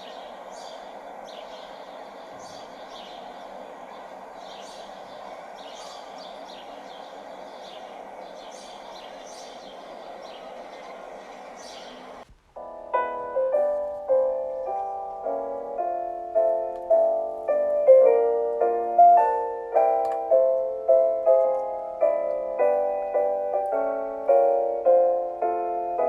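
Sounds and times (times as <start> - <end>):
solo piano melody: 0.0 - 26.0.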